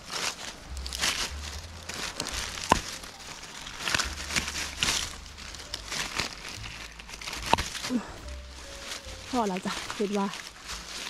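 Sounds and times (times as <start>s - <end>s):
dry leaves rustling and crackling: 0.0s - 11.0s.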